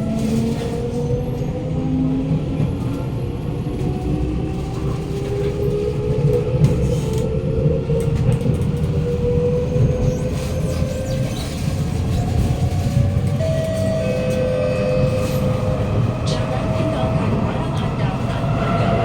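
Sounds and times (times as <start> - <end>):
wheels rumbling on track: 0.0 - 19.0.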